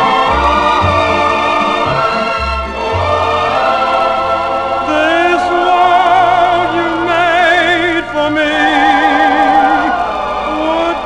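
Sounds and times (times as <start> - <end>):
orchestral music on old record: 0.0 - 11.0.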